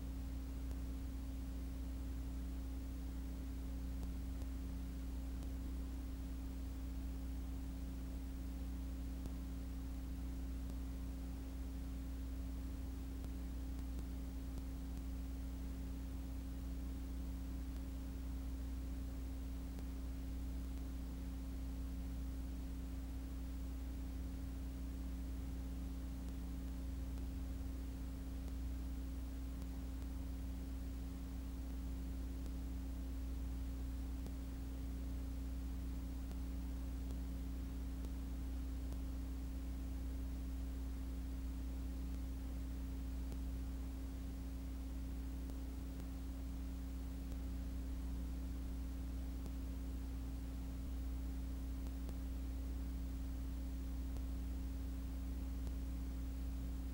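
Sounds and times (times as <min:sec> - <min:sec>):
faint hiss: 0:00.0 - 0:56.9
low electrical hum: 0:00.0 - 0:56.9.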